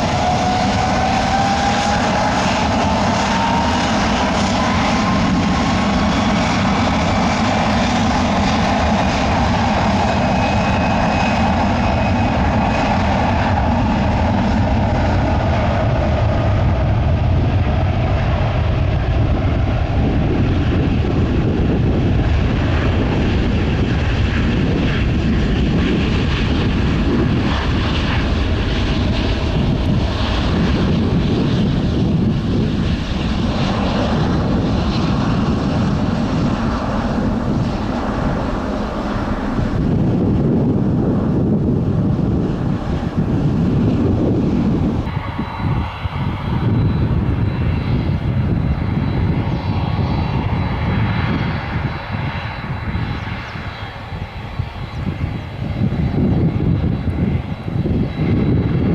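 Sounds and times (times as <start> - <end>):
jet airliner taking off: 0.0 - 58.9.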